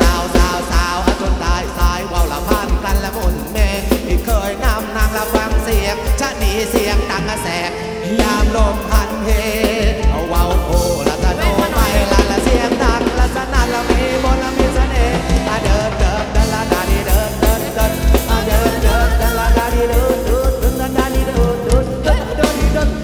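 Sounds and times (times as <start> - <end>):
heavy bass drum beat: 0.0 - 7.4, 8.1 - 23.0
live dance band playing: 0.0 - 23.0.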